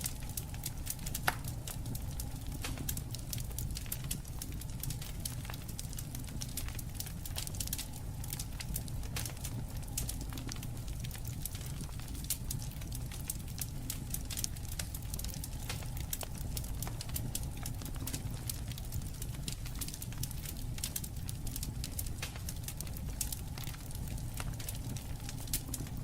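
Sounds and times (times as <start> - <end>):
low steady rumble: 0.0 - 26.0
wood fire crackling: 0.0 - 26.0.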